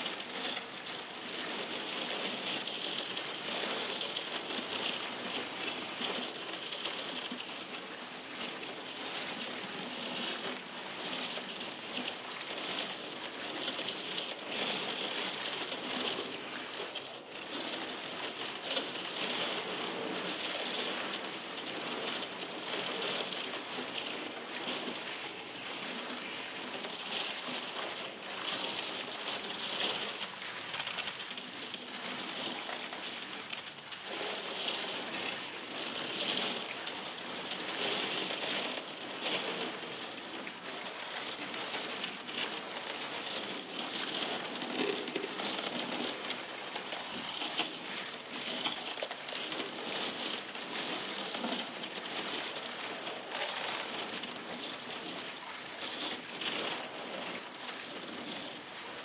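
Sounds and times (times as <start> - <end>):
ice crackling and cracking: 0.0 - 59.0.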